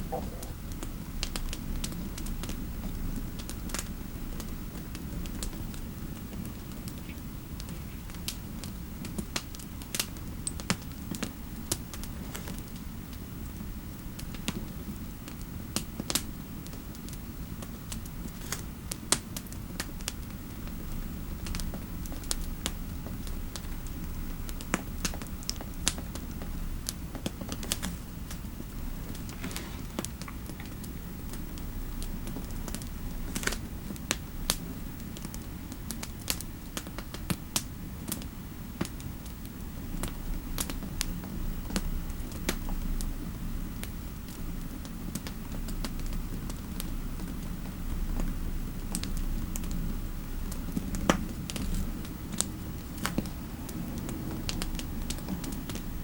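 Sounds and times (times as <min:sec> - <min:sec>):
low fireplace ambience: 0:00.0 - 0:56.0.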